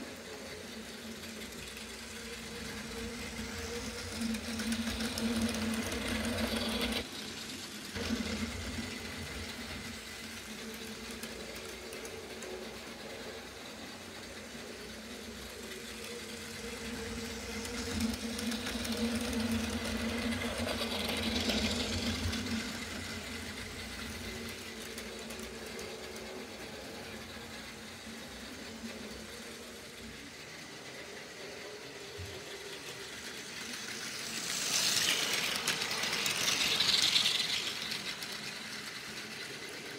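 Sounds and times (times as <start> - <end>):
toy train motor whir: 0.0 - 39.9
wheels rattling on plastic track: 0.0 - 39.9.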